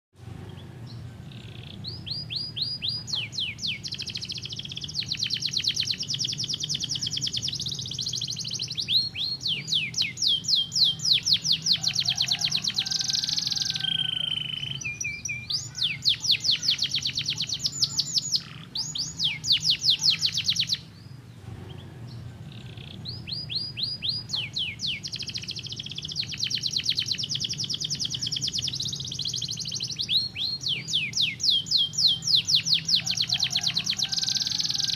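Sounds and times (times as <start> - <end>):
faint low hum: 0.2 - 33.3
canary singing trills: 0.4 - 34.9.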